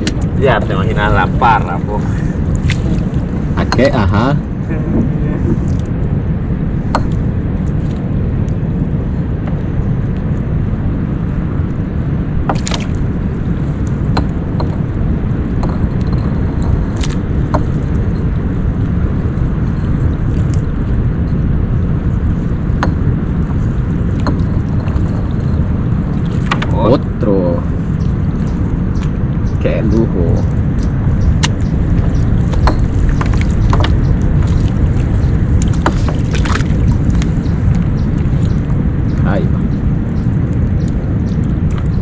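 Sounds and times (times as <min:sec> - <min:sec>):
low rumbling noise: 0:00.0 - 0:42.0.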